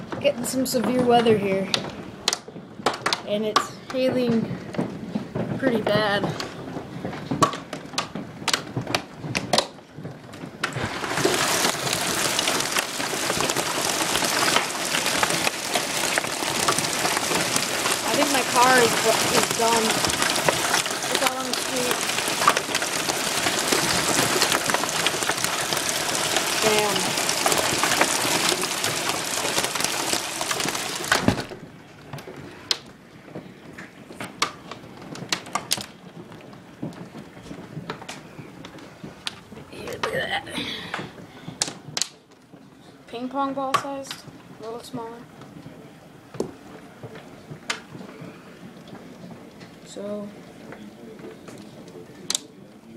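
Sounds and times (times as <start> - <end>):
hail pelting ground and roofs: 0.0 - 52.9.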